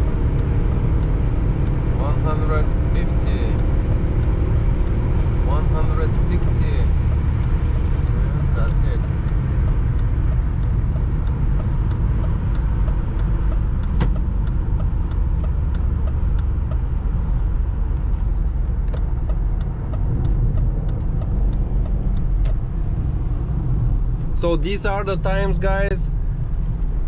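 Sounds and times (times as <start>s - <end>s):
car interior engine and road noise: 0.0s - 27.0s.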